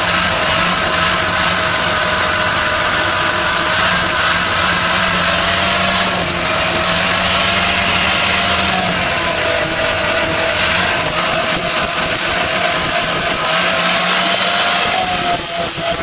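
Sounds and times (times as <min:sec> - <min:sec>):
power tool whining under load: 0:00.0 - 0:16.0.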